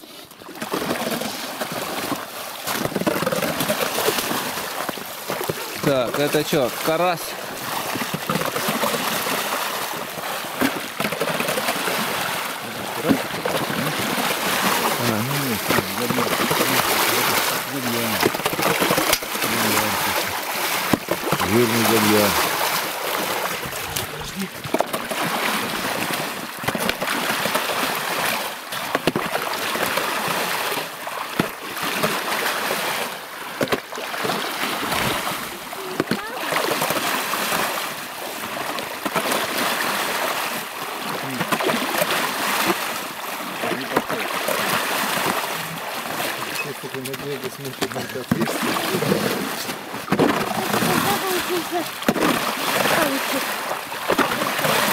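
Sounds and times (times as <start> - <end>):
shovels sloshing water and slush: 0.0 - 54.9
water splashing: 0.0 - 54.9.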